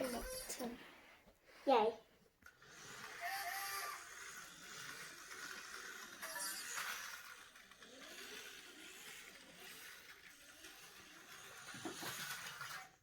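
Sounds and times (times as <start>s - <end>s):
toy train motor whine: 0.0s - 0.7s, 2.4s - 13.0s.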